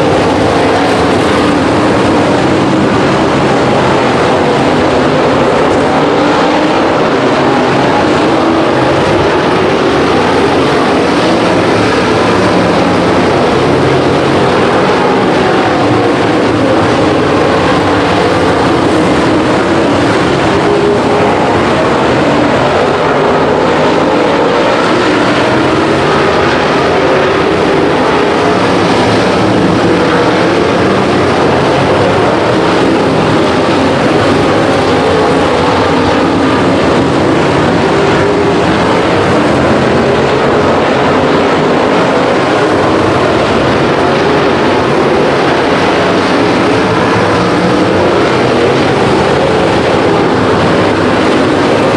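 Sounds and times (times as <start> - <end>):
race car engines at high revs: 0.0 - 51.9.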